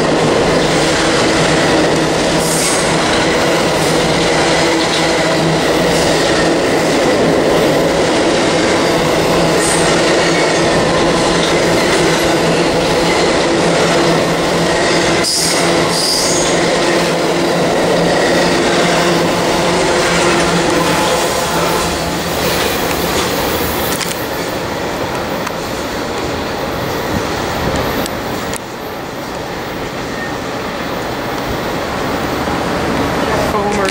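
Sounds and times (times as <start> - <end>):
train wheels rumbling on rail: 0.0 - 33.9.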